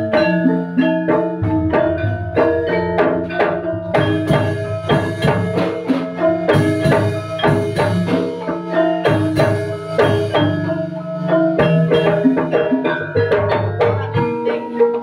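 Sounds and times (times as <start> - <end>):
drum strokes: 0.0 - 15.0
metallophones and gong-chimes ringing: 0.0 - 15.0.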